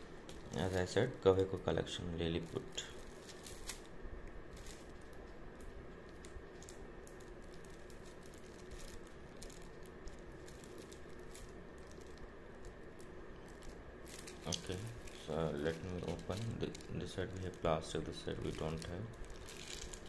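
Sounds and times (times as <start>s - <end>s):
plastic wrap crinkling: 0.0s - 20.0s
steady background noise: 0.0s - 20.0s.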